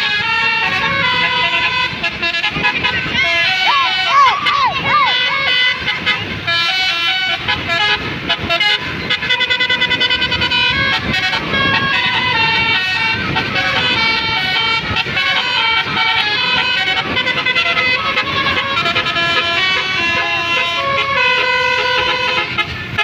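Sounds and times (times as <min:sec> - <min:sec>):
musical air horn: 0:00.0 - 0:23.0.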